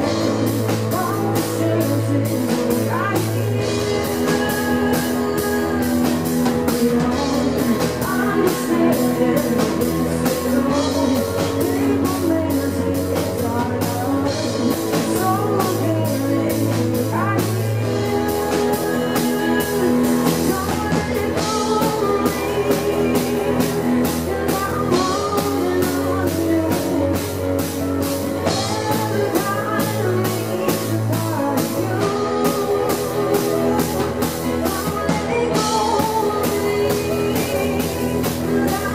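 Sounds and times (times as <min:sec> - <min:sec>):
keyboard: 0:00.0 - 0:38.9
steady drum beat: 0:00.0 - 0:38.9
woman singing: 0:00.0 - 0:38.9.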